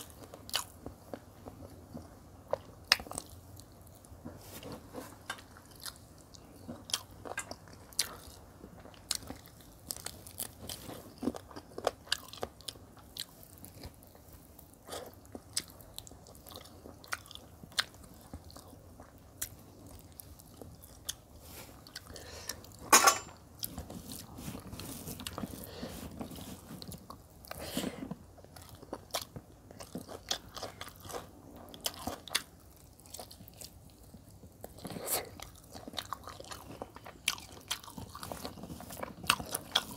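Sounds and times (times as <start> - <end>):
chewing and lip smacking: 4.8 - 22.9, 23.6 - 39.9.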